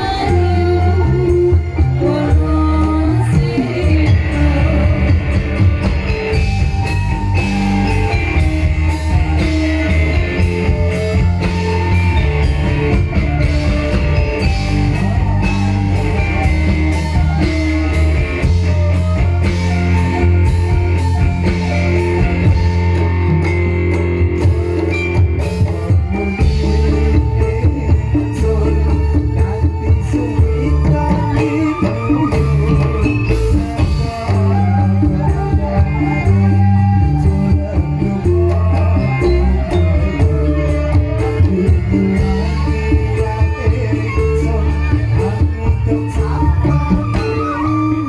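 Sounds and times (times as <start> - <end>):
band playing gamelan and drums: 0.0 - 48.0.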